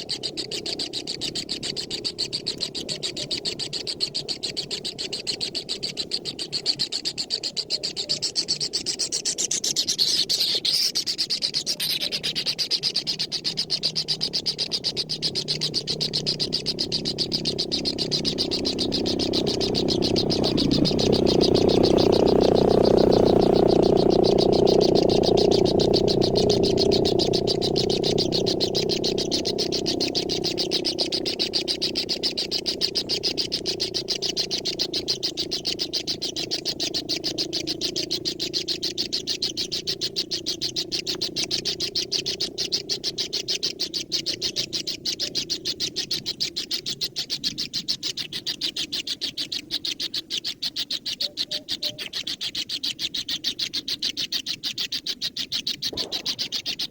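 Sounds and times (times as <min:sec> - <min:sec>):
animal pulsing chatter: 0:00.0 - 0:56.9.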